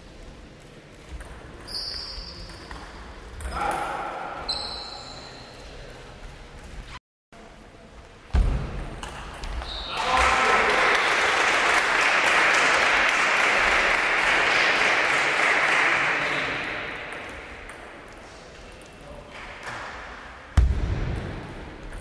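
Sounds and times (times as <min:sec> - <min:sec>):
crowd noise in sports hall: 0:00.0 - 0:22.0.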